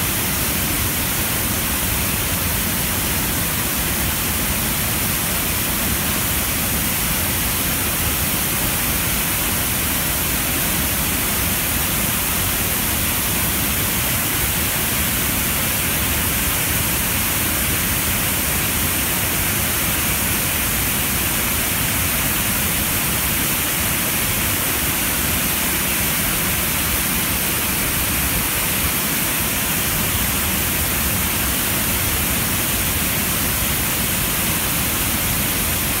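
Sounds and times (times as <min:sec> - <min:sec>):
water rushing over dam: 0:00.0 - 0:36.0.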